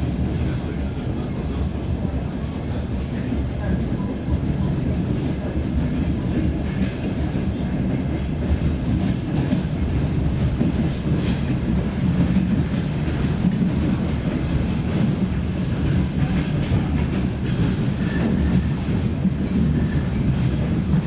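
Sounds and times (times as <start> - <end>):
diesel train rumbling on rails: 0.0 - 21.0.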